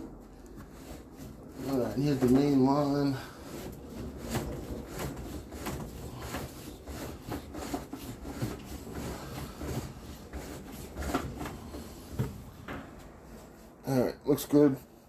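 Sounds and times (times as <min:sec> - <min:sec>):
drain cable scraping in a pipe: 0:00.0 - 0:15.0.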